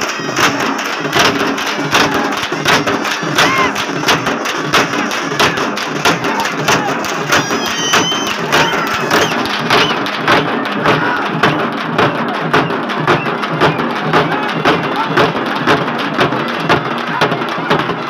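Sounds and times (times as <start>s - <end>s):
drums beating steadily: 0.0s - 18.0s
large crowd shouting: 0.0s - 18.0s.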